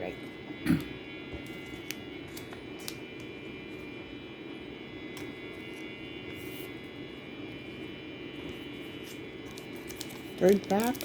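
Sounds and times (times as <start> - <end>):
steady fan hum: 0.0 - 11.0.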